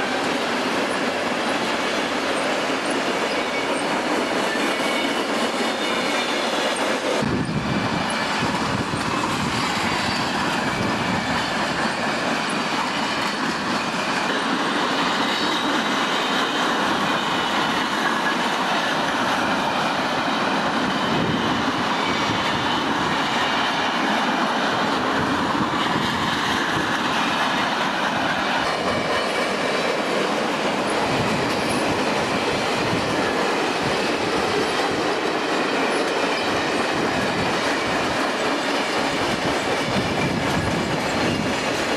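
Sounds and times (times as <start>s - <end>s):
train wheels clattering over rail joints: 0.2s - 41.9s.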